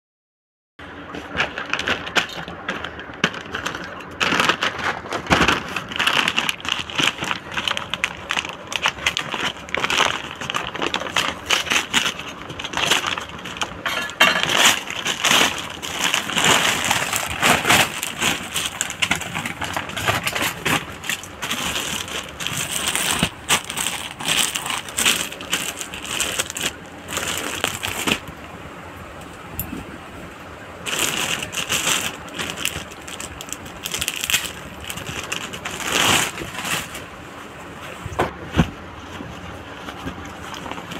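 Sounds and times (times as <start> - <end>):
plastic wrapper crinkling: 1.0 - 28.4, 30.7 - 38.0, 38.8 - 40.9
paper bag tearing and crinkling: 1.2 - 28.4, 30.8 - 37.2.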